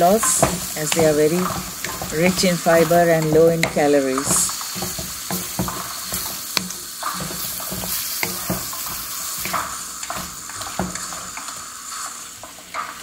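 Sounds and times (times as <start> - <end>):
masala sizzling in a pan: 0.0 - 13.0
wooden spatula scraping a pan: 0.0 - 13.0.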